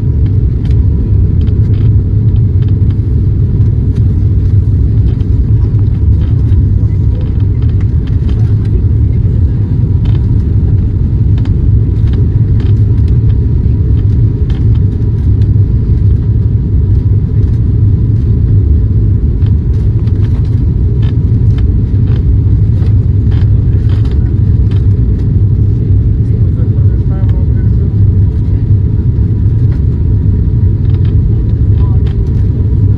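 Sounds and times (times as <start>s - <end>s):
turboprop engine drone: 0.0s - 32.9s.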